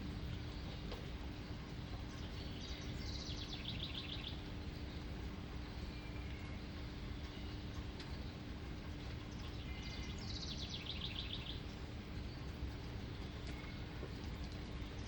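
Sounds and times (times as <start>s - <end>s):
faint low hum: 0.0s - 15.0s
songbird singing: 0.0s - 15.0s.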